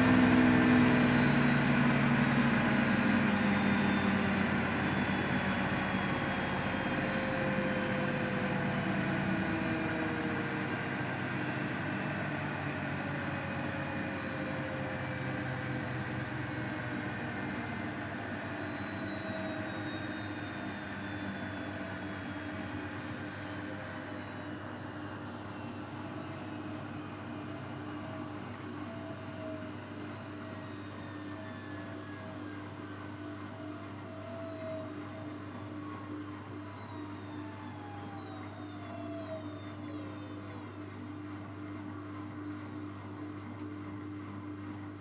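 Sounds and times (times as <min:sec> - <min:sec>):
washing machine spinning down: 0:00.0 - 0:45.0.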